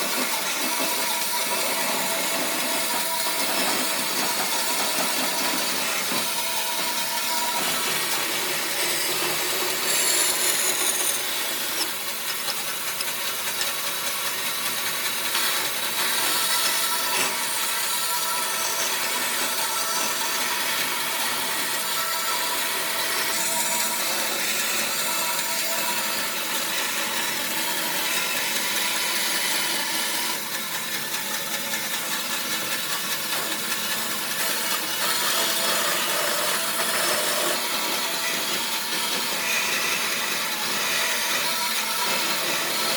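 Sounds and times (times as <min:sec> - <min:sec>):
power tool working wood: 0:00.0 - 0:42.9.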